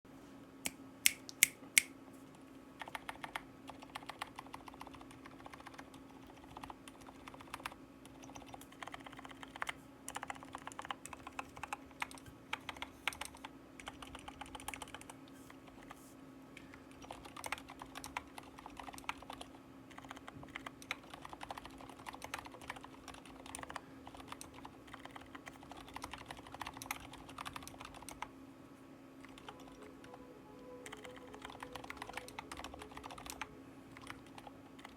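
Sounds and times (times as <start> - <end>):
faint steady hum: 0.1 - 34.9
muted keyboard keystrokes: 2.8 - 15.1, 16.6 - 28.3, 30.8 - 34.9.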